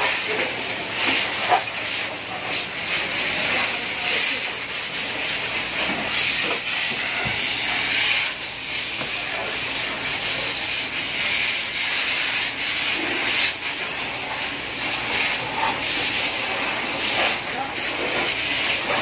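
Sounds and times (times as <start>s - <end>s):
water spray hissing on fire: 0.0s - 19.0s.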